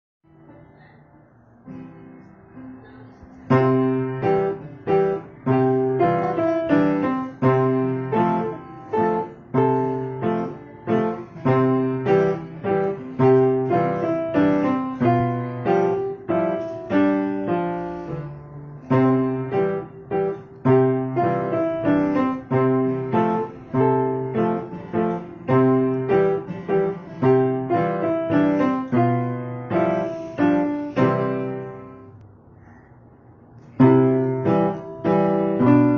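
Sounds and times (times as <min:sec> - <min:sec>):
simple piano melody: 0:00.3 - 0:32.3, 0:33.6 - 0:35.9.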